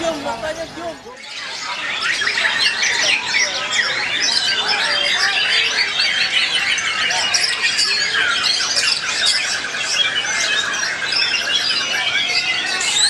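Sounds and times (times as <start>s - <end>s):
bird trill: 0.0s - 13.0s
songbirds singing: 0.0s - 13.0s.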